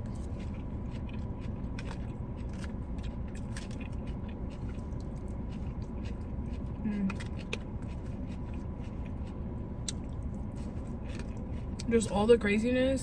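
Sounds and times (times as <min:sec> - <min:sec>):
person chewing food: 0:00.0 - 0:12.2
low rumble: 0:00.0 - 0:13.0.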